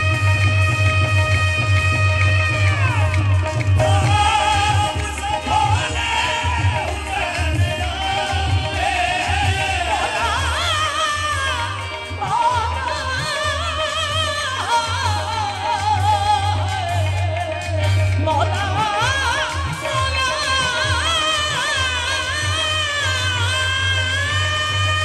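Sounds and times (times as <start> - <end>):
musical accompaniment: 0.0 - 25.0.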